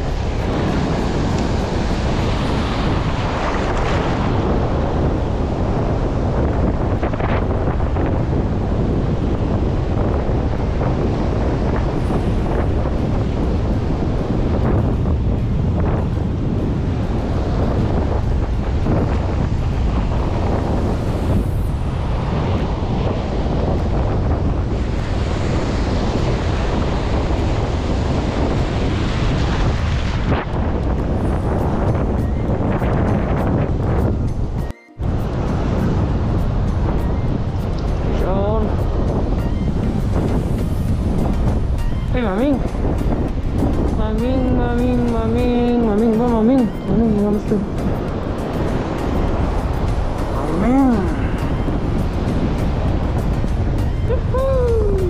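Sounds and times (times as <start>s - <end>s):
surf washing on shore: 0.0s - 55.0s
wind buffeting microphone: 0.0s - 55.0s.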